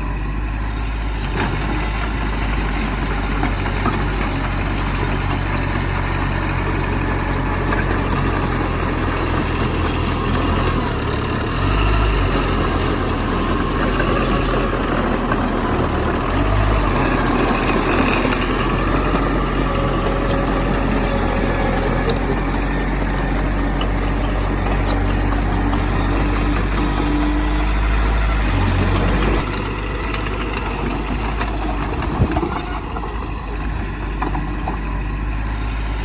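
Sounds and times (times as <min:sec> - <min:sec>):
faint engine whine: 0:00.0 - 0:36.0
heavy machinery diesel engine: 0:00.0 - 0:36.0.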